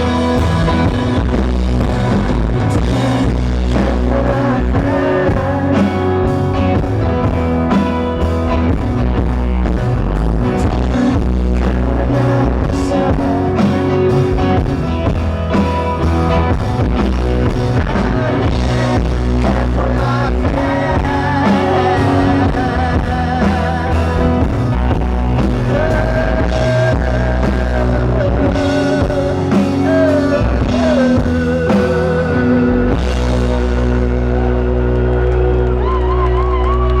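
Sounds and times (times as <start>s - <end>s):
wavering lead line: 0.0s - 36.9s
bass: 0.0s - 37.0s
drums: 0.0s - 37.0s
electric guitar: 0.0s - 37.0s.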